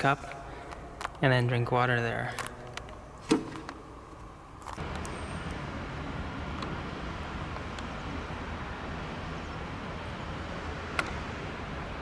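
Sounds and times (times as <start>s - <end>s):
road traffic noise: 2.2s - 12.0s.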